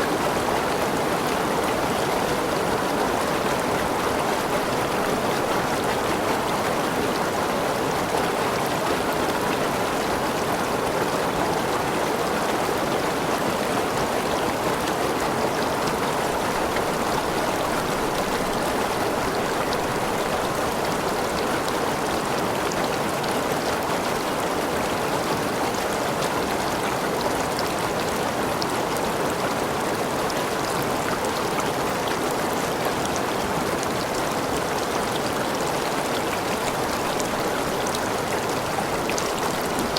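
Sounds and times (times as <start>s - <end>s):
waterfall splashing and rushing: 0.0s - 39.9s.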